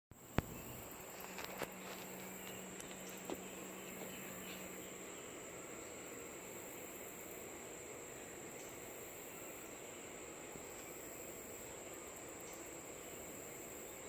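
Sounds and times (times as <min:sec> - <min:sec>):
crickets trilling: 0:00.1 - 0:14.0.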